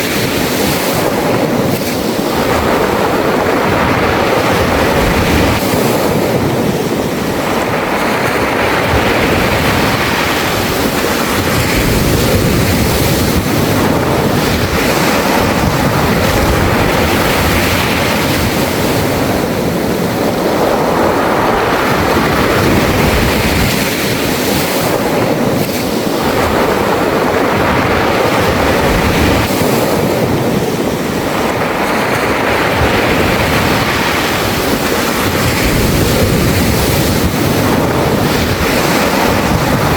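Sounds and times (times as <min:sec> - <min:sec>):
waves washing over pebbles: 0:00.0 - 0:39.9.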